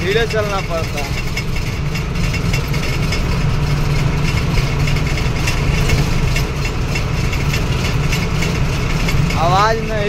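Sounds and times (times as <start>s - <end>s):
loose parts rattling: 0.0s - 10.0s
truck engine running: 0.0s - 10.0s.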